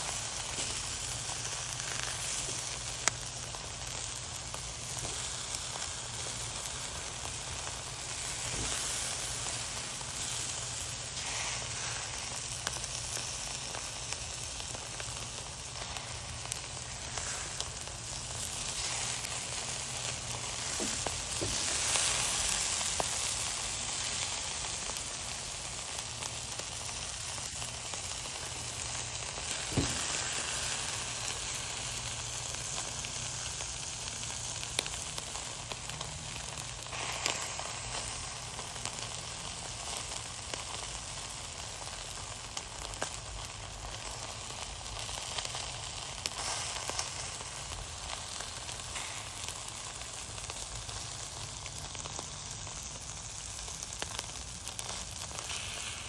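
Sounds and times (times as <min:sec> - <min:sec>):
charcoal pops and crackles: 0:00.0 - 0:56.0
chicken sizzling on a grill: 0:00.0 - 0:56.0.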